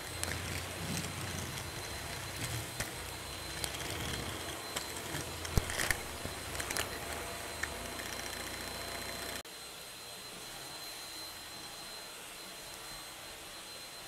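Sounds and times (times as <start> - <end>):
vacuum cleaner motor hum: 0.0 - 12.8.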